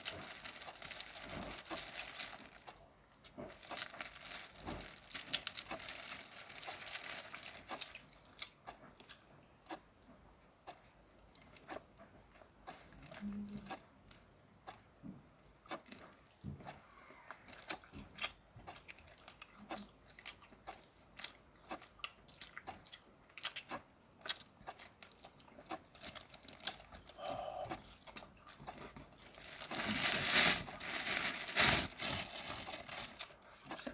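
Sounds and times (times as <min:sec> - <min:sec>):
crunching and chewing shrimp: 0:00.0 - 0:14.8, 0:15.4 - 0:33.9.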